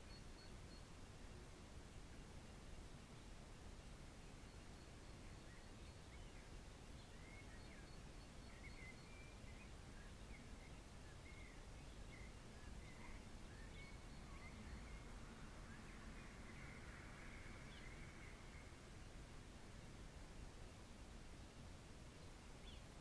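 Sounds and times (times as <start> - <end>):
faint birds chirping: 0.0 - 23.0
low background hiss: 0.0 - 23.0.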